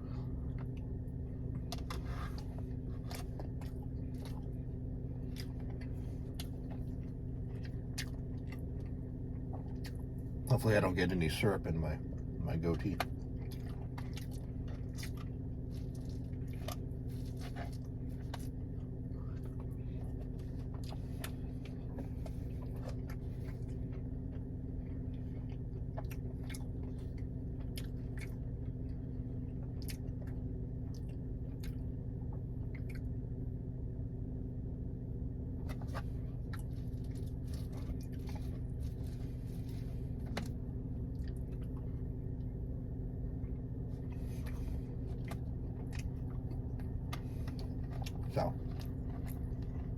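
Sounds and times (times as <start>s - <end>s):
chewing and wet mouth sounds: 0.0s - 49.9s
steady low hum: 0.0s - 49.9s.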